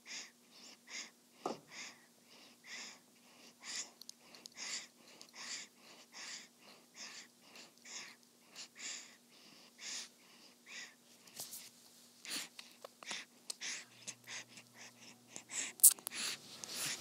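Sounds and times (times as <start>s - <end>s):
baby breathing softly: 0.0s - 17.0s.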